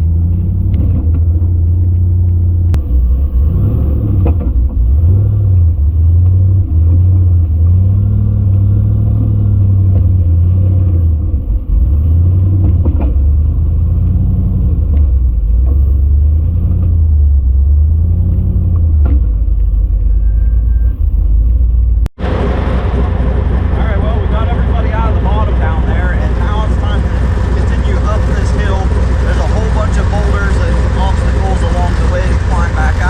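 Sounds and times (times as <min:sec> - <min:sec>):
buggy engine under throttle: 0:00.0 - 0:33.0.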